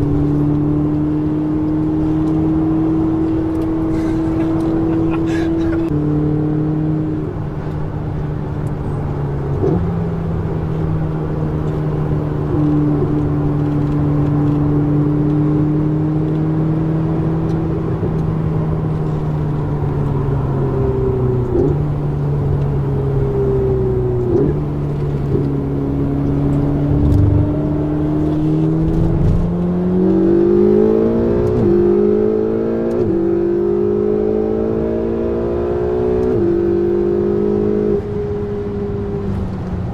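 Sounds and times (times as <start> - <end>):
car engine with gear changes: 0.0 - 39.9.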